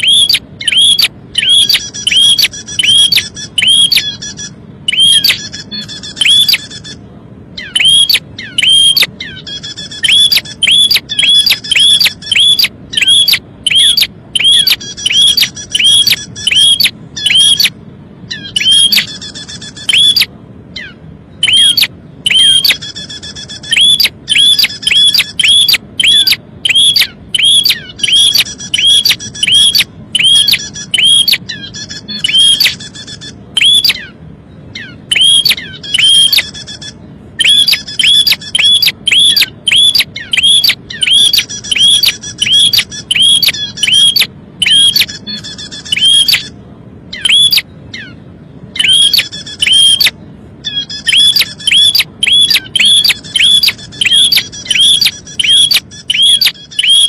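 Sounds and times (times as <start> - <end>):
bird sharp call notes: 0.0 - 7.0, 7.6 - 17.7, 18.3 - 34.2, 34.8 - 46.5, 48.8 - 57.0
nestlings chattering: 0.0 - 7.0, 7.6 - 17.7, 18.4 - 20.3, 21.4 - 34.0, 34.8 - 46.6, 50.8 - 57.0.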